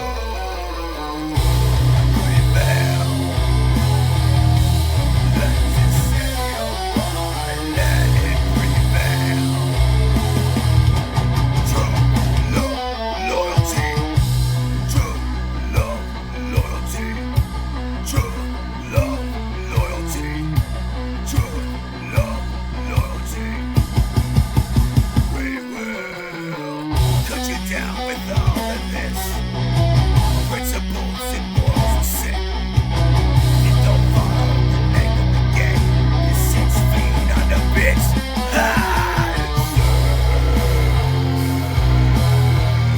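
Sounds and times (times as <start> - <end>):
heavy bass: 0.0 - 25.7, 26.9 - 42.9
distorted electric guitar: 0.0 - 42.9
drums: 1.3 - 42.9.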